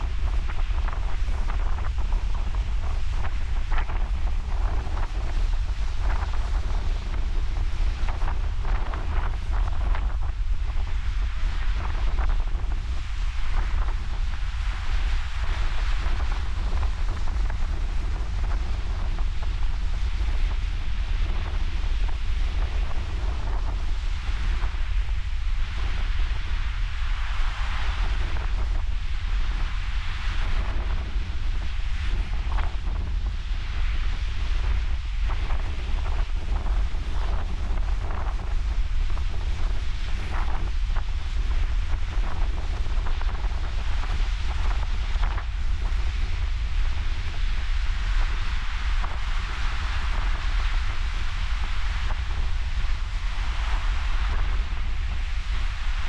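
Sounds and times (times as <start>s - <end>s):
ocean surf washing on shore: 0.0s - 56.0s
wind buffeting microphone: 0.0s - 56.0s.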